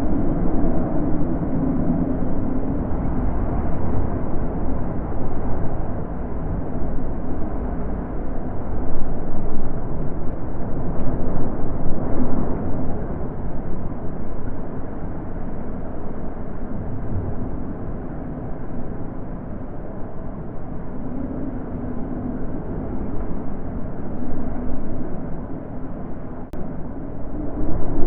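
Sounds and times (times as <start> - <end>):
wind blowing in gusts: 0.0 - 28.0.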